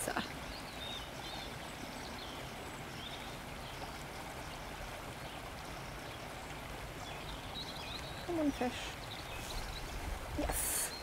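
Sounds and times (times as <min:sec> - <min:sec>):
stream rushing: 0:00.0 - 0:11.0.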